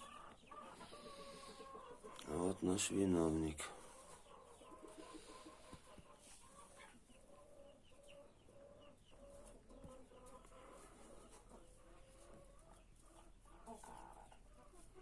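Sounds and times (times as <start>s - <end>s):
hens chirping: 0.0s - 15.0s.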